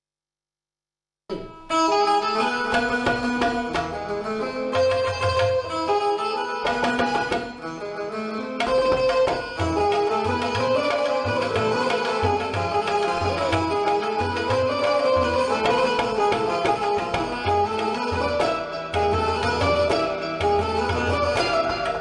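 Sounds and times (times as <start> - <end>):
plucked string melody: 1.3 - 22.0
tabla drumming: 1.3 - 22.0.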